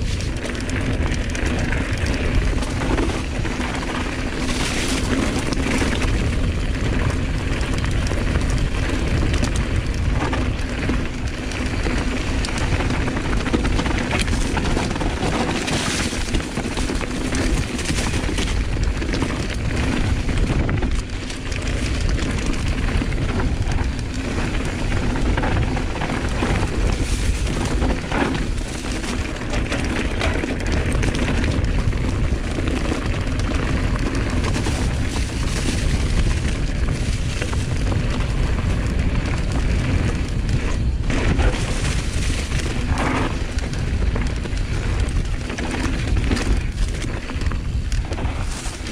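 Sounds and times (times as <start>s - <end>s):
bike tyre and drivetrain noise: 0.0s - 48.9s
wind on microphone: 0.0s - 48.9s.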